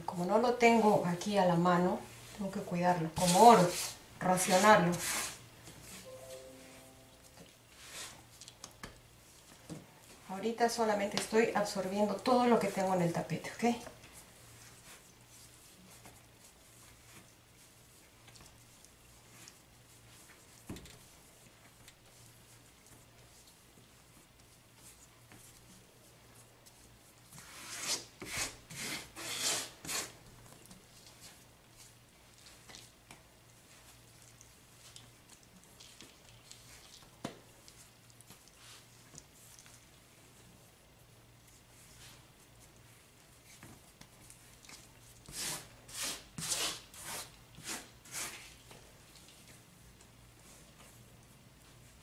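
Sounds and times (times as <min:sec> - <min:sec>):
hands kneading fondant: 0:00.0 - 0:52.0.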